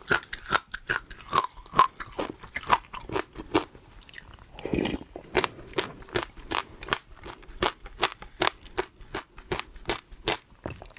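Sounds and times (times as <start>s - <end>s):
crunchy chewing: 0.0s - 10.9s.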